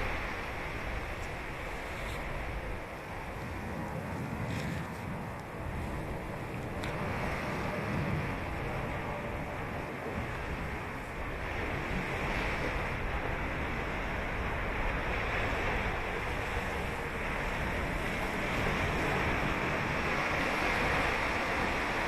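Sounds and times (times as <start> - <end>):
ocean surf breaking on sand: 0.0 - 22.0.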